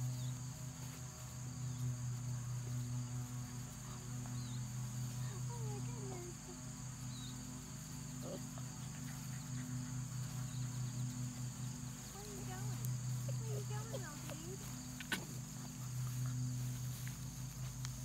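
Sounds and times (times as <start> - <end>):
insect chorus high whine: 0.0 - 18.0
steady low hum: 0.0 - 18.0.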